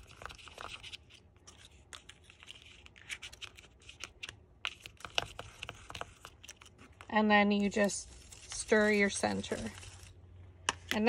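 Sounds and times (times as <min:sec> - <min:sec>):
stylus scratching paper in plastic: 0:00.0 - 0:10.2.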